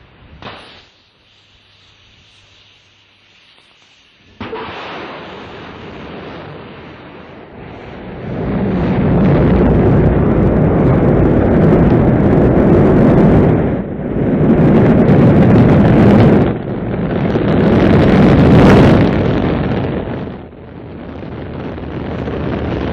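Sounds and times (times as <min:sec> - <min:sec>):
rocket engines rumbling: 0:00.0 - 0:22.9.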